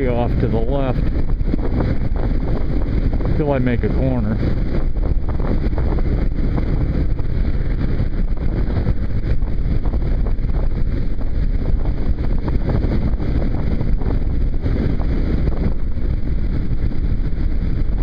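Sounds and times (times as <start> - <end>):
motorcycle engine: 0.0 - 18.0
wind rushing over microphone: 0.0 - 18.0.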